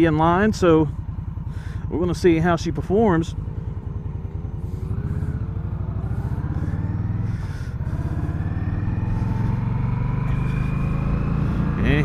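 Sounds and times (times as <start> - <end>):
motorcycle accelerating: 0.0 - 12.0.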